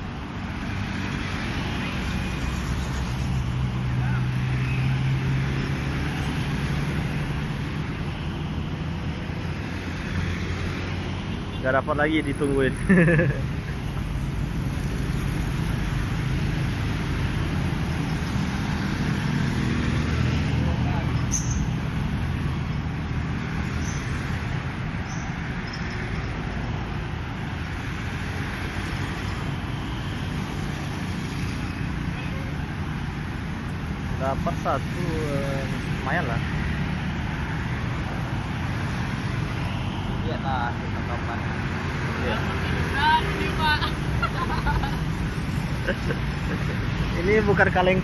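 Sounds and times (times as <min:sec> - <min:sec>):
passing vehicles hum: 0:00.0 - 0:48.0
road traffic rumble: 0:00.0 - 0:48.0.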